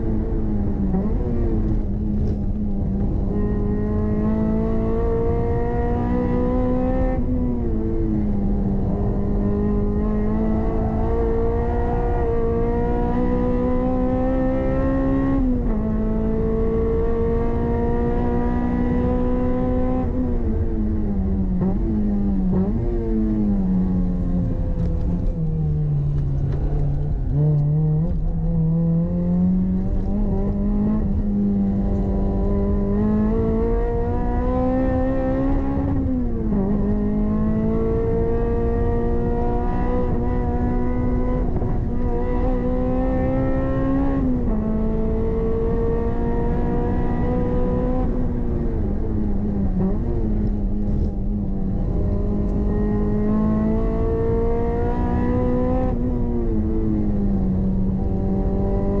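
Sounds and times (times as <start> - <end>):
car engine revving on track: 0.0 - 59.0.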